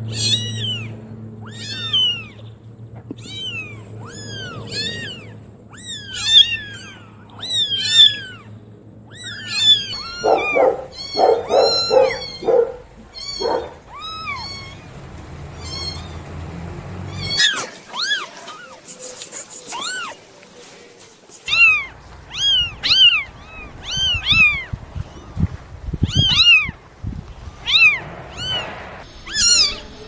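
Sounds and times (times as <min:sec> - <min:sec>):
kittens meowing: 0:00.0 - 0:16.4, 0:17.0 - 0:20.2, 0:21.4 - 0:26.8, 0:27.5 - 0:29.9.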